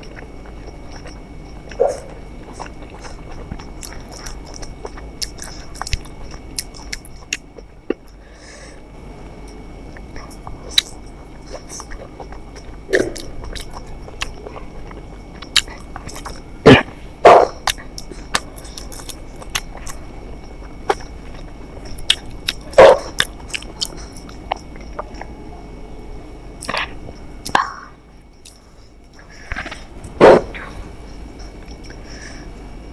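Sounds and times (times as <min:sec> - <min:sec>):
mouth clicks and smacks: 0:00.0 - 0:08.2, 0:09.9 - 0:25.3, 0:26.6 - 0:30.7, 0:31.4 - 0:32.2
person chewing: 0:00.0 - 0:08.8, 0:09.4 - 0:25.4, 0:26.6 - 0:32.4.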